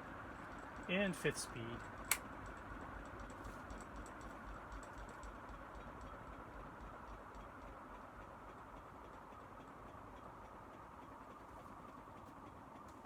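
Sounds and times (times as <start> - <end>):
ceiling fan humming: 0.0 - 13.0
fan ticking: 0.0 - 13.0.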